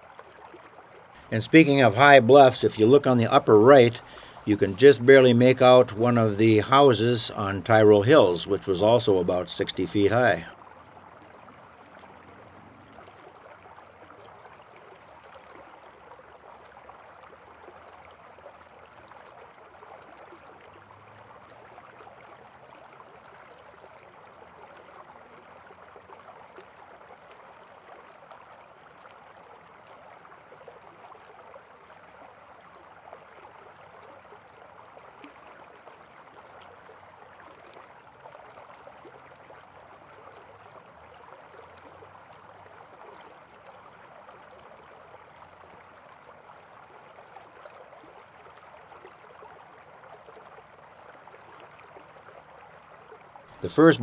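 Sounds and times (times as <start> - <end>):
faint flowing water: 0.0 - 54.0.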